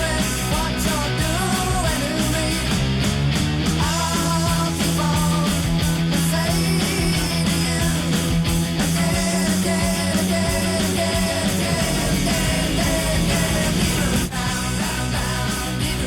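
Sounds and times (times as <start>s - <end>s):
loud hard rock music: 0.0s - 16.0s.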